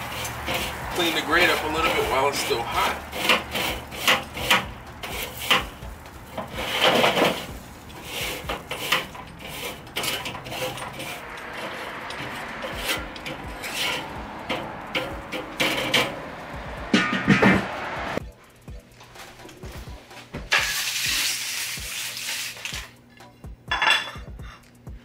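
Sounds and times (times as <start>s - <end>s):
scraping metal grill grate: 0.0s - 18.2s, 19.0s - 23.0s.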